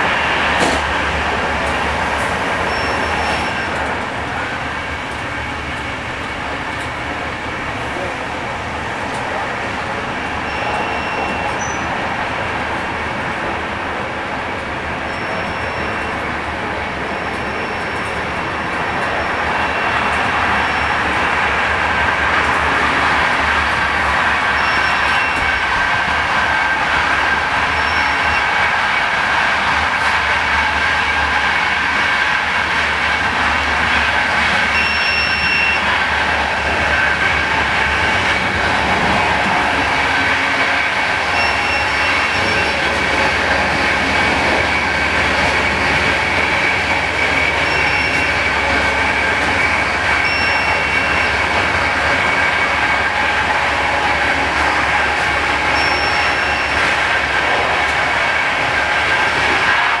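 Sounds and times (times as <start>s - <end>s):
moving passenger train interior: 0.0s - 60.0s.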